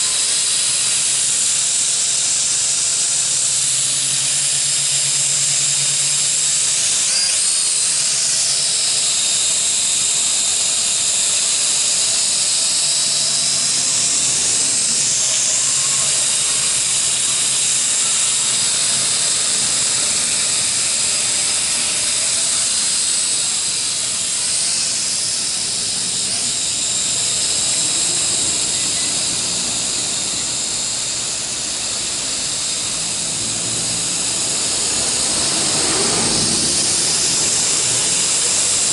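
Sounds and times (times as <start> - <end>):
quadcopter propellers whining: 0.0 - 38.9.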